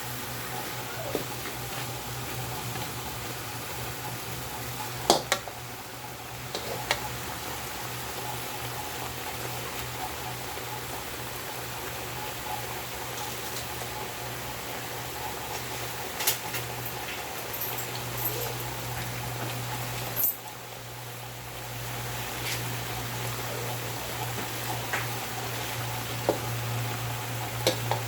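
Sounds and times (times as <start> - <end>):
kitchen hum and hiss: 0.0 - 28.0.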